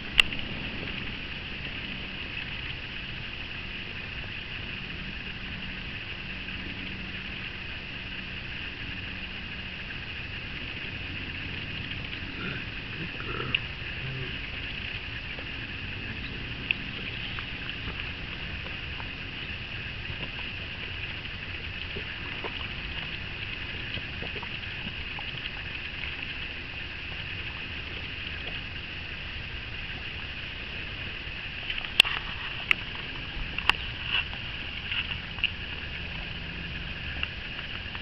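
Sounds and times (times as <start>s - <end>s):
high-pitched hum: 0.0s - 38.0s
outdoor background noise: 0.0s - 38.0s.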